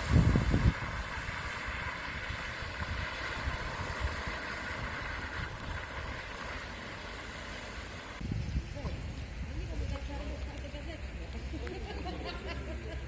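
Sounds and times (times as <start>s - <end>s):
tyres swishing through floodwater: 0.0s - 13.0s.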